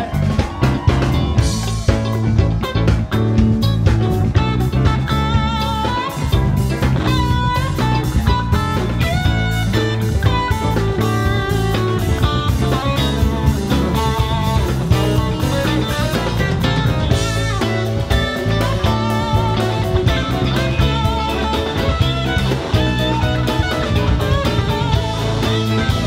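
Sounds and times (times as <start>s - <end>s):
bass: 0.0s - 26.0s
drum kit: 0.0s - 26.0s
electric guitar lines: 0.0s - 26.0s
keyboards: 0.0s - 26.0s.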